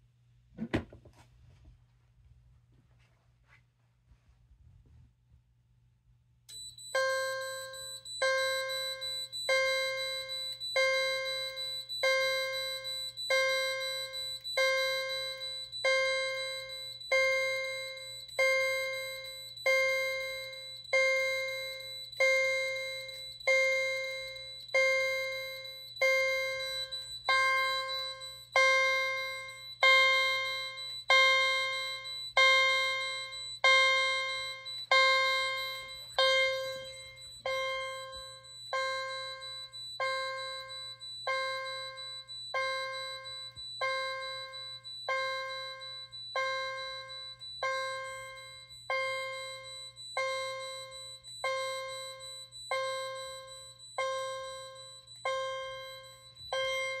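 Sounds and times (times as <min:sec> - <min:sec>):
fire alarm chime strokes: 0:06.5 - 0:57.0.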